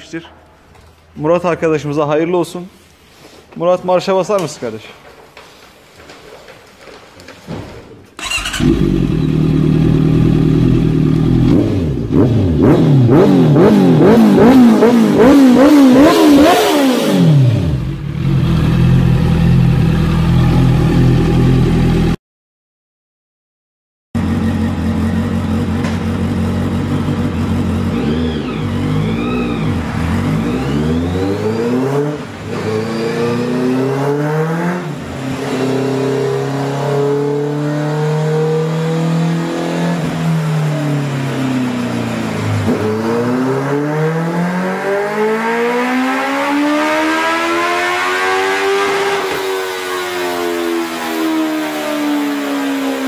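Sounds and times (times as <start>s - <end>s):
motorcycle engine revving: 8.2s - 22.2s, 24.2s - 53.0s.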